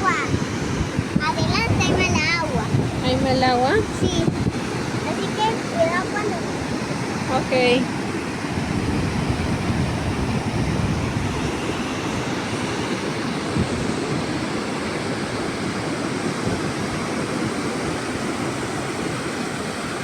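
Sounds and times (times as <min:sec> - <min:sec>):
ocean surf breaking: 0:00.0 - 0:20.0
wind on microphone: 0:00.0 - 0:20.0.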